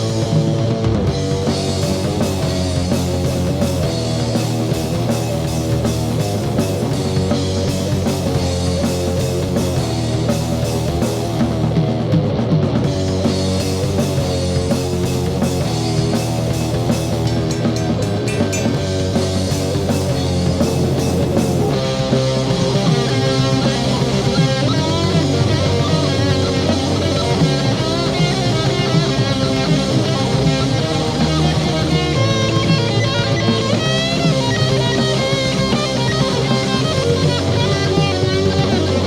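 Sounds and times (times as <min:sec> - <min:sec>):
bass: 0:00.0 - 0:39.0
drums: 0:00.0 - 0:39.0
electric guitars with bending lead: 0:00.0 - 0:39.0.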